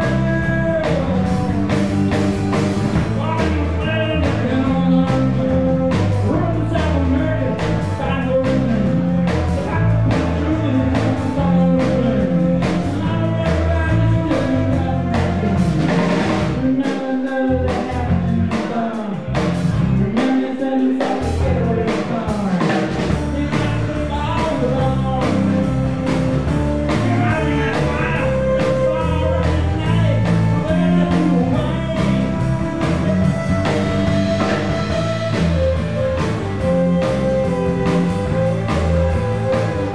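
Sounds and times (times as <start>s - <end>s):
bass: 0.0s - 39.9s
drum kit beat: 0.0s - 39.9s
person singing: 0.0s - 39.9s.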